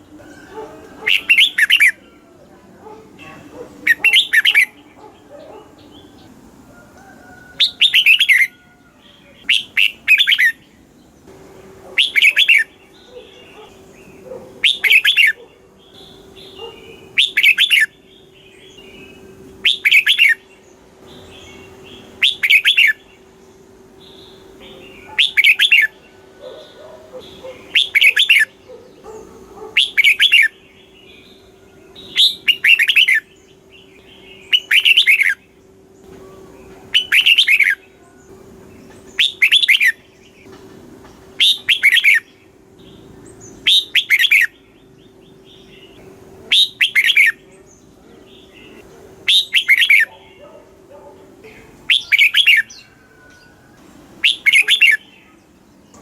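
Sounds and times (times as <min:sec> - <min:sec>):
bulbul singing warbled phrases: 0:00.0 - 0:40.5, 0:41.2 - 0:56.0.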